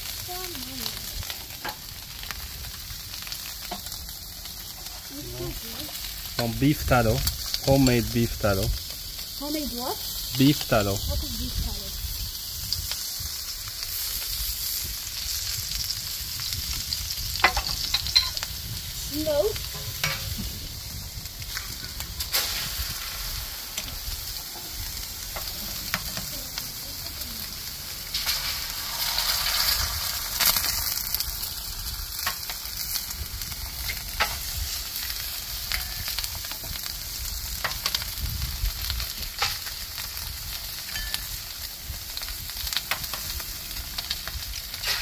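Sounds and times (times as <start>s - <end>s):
food sizzling on a griddle: 0.0s - 45.0s.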